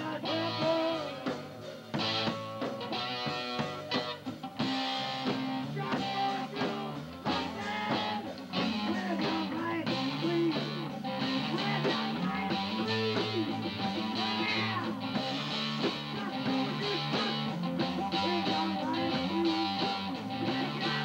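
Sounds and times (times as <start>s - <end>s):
bass guitar: 0.0s - 21.0s
drums: 0.0s - 21.0s
electric guitar: 0.0s - 21.0s.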